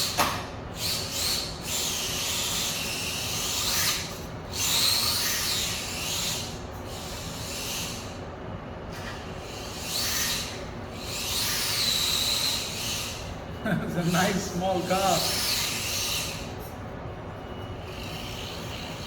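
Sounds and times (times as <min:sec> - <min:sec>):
toy car electric motor whining: 0:00.0 - 0:08.2, 0:08.9 - 0:13.4, 0:14.0 - 0:16.7, 0:17.8 - 0:19.0.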